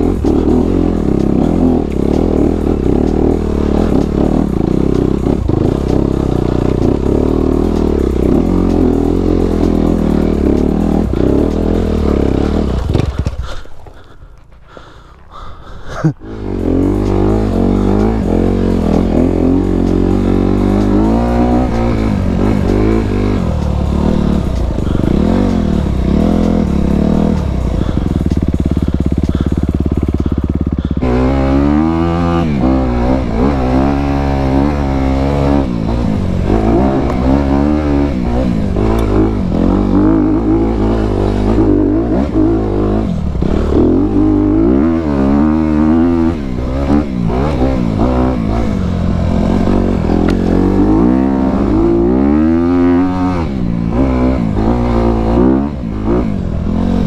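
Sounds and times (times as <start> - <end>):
dirt bike engine revving: 0.0 - 14.2, 15.3 - 57.0.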